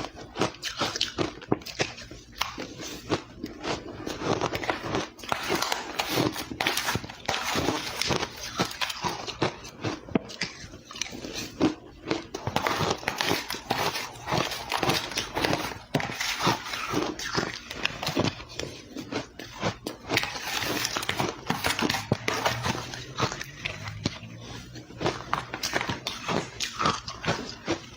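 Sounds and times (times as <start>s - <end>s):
person crunching ice: 2.5s - 27.9s.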